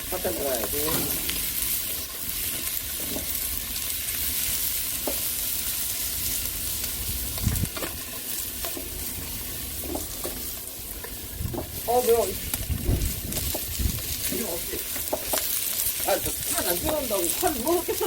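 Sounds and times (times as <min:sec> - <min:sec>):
meat sizzling in oil: 0:00.0 - 0:18.0
utensil stirring in wok: 0:00.0 - 0:18.0.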